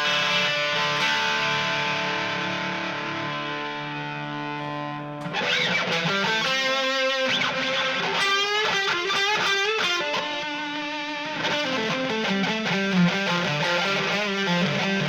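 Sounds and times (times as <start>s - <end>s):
electric guitar with delay echoes: 0.0s - 15.0s.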